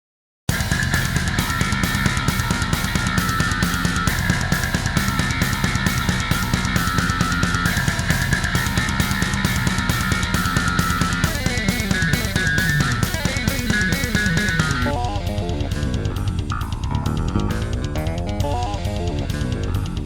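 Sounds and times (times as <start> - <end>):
drum beat: 0.5 - 20.0
electric bass: 0.5 - 20.0.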